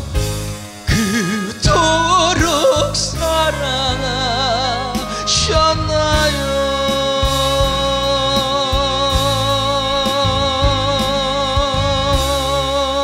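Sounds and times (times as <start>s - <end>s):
backing track with pulsing beat: 0.0s - 13.0s
man singing with vibrato: 0.8s - 13.0s.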